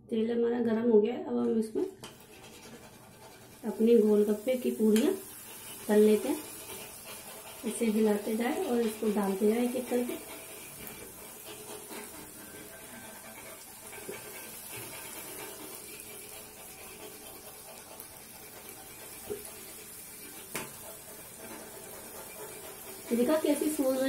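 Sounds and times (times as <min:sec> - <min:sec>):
food sizzling in hot oil: 0:02.0 - 0:24.0.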